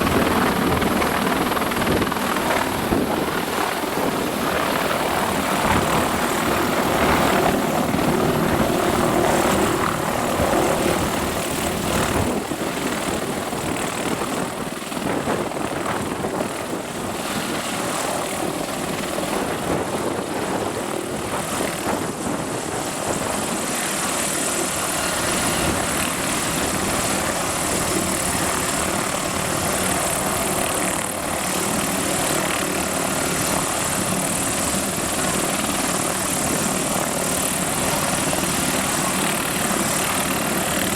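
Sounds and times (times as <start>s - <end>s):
helicopter engine noise: 0.0s - 40.9s
helicopter rotor blades swishing: 0.0s - 40.9s.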